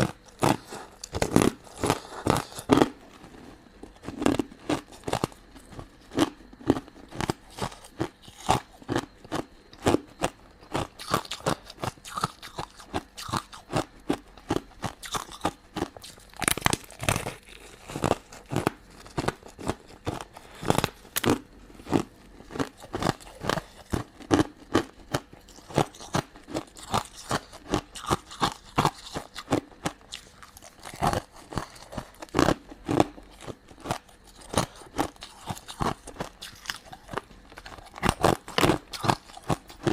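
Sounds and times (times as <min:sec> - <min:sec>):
crunchy sweets being chewed: 0:00.0 - 0:39.9.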